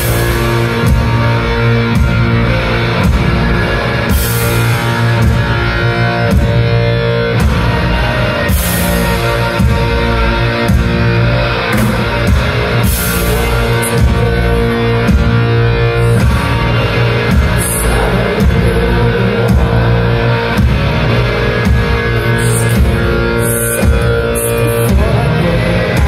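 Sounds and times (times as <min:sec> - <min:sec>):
bass guitar: 0:00.0 - 0:26.0
distorted electric guitar: 0:00.0 - 0:26.0
drum kit beat: 0:00.0 - 0:26.0.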